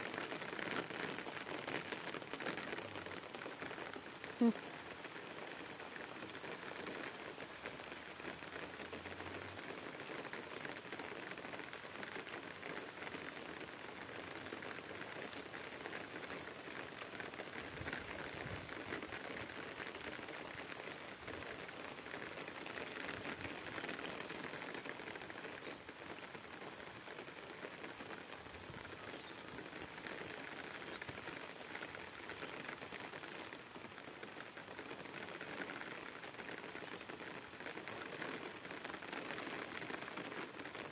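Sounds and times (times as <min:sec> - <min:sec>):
light rain pattering on water and leaves: 0:00.0 - 0:40.9.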